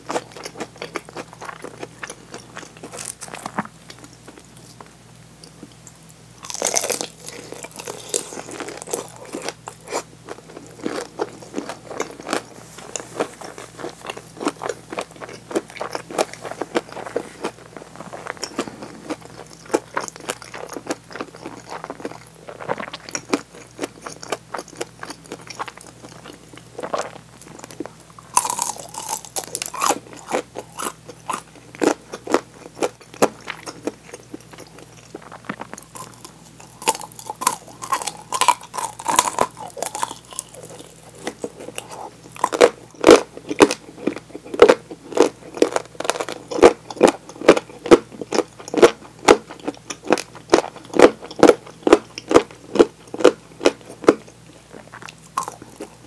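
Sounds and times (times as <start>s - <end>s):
person chewing crispy chicken: 0.0s - 4.8s, 6.4s - 56.0s.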